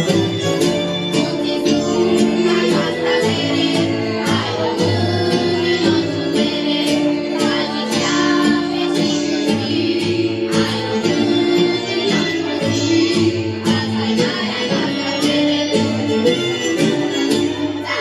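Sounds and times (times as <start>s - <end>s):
children's choir singing: 0.0s - 18.0s
instrumental backing track: 0.0s - 18.0s.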